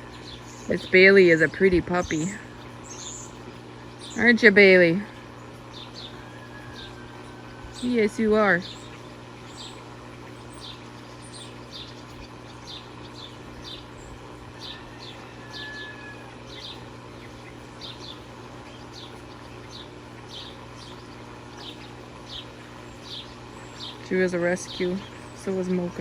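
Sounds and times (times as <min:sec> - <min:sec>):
bird chirping: 0:00.0 - 0:26.0
steady low hum: 0:00.0 - 0:26.0.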